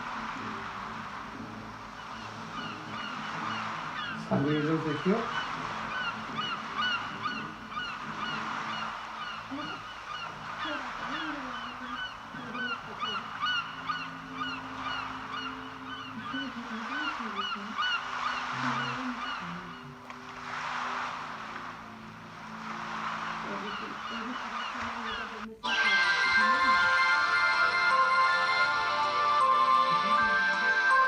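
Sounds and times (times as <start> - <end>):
birds chirping: 0.0 - 31.0
low wavering bird calls: 0.0 - 31.0.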